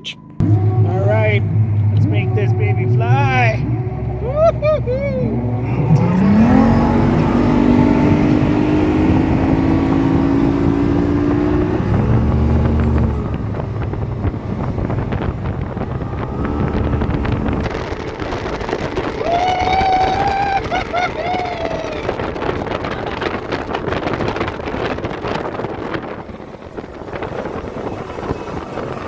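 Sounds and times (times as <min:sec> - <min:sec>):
outboard motor revving: 0:00.4 - 0:29.0
wind buffeting microphone: 0:00.4 - 0:29.0.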